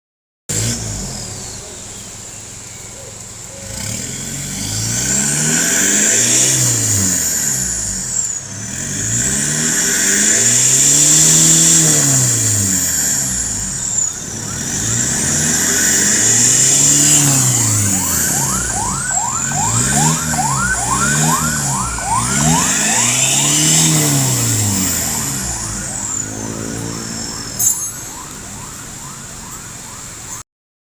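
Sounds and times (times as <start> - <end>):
car engine revving: 0.5 - 29.4.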